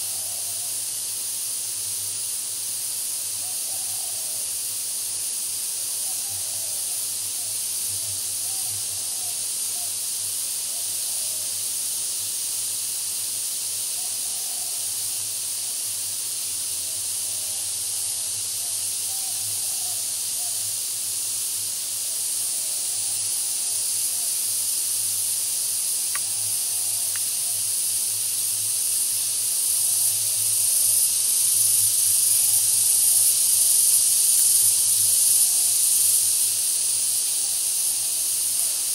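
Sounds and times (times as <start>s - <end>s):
high-pitched hiss: 0.0s - 38.9s.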